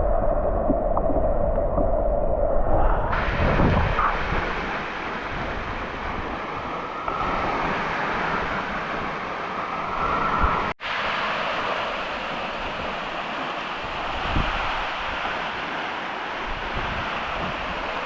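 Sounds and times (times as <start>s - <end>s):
waterfall and creek rushing: 3.1s - 18.0s.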